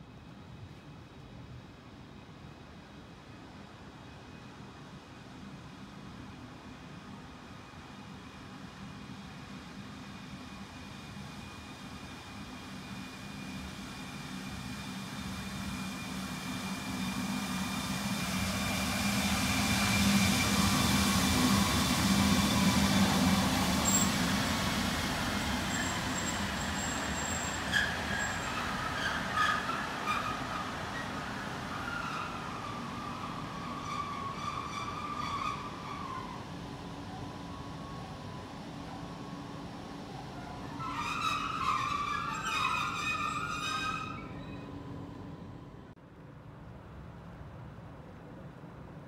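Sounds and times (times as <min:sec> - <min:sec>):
electric locomotive hum and rolling: 0:00.0 - 0:49.0.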